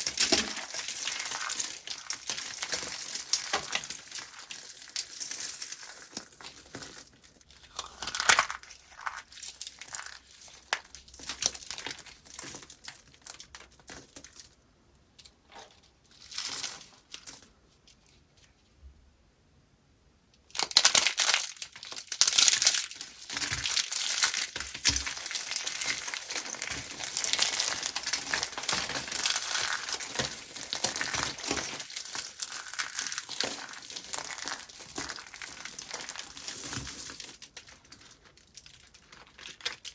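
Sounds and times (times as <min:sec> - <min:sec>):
dry soap being crushed: 0:00.0 - 0:14.6, 0:15.2 - 0:18.0, 0:20.5 - 0:39.9.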